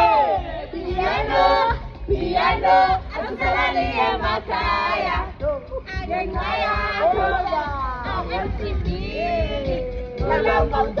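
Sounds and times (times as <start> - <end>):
music with pulsing bass: 0.0 - 11.0
voices singing and shouting: 0.0 - 11.0.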